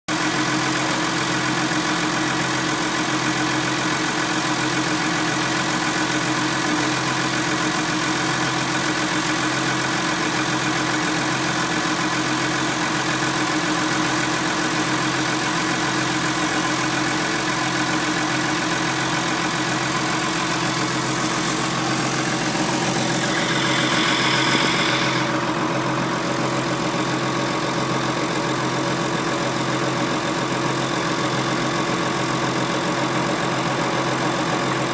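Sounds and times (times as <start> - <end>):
tractor diesel engine idling: 0.1 - 34.9.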